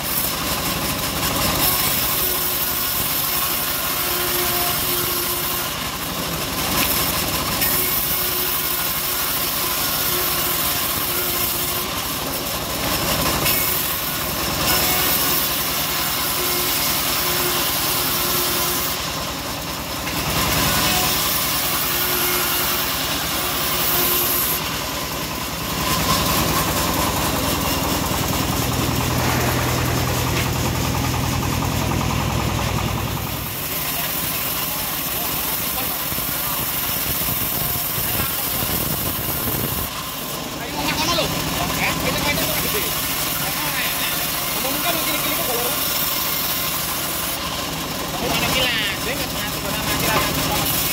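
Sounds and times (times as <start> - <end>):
band saw blade hissing through wood: 0.0 - 40.4, 42.2 - 50.9
sawmill machine drone: 0.0 - 50.9.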